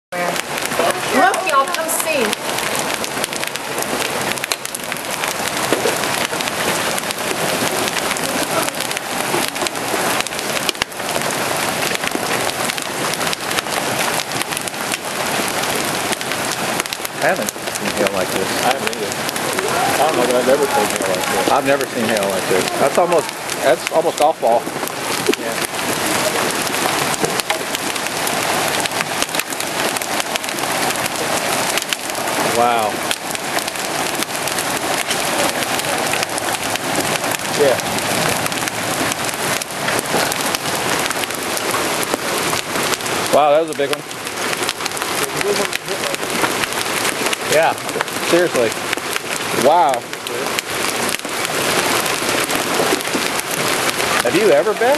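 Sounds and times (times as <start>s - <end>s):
heavy rain hissing: 0.1s - 54.9s
hail clattering: 0.2s - 54.9s.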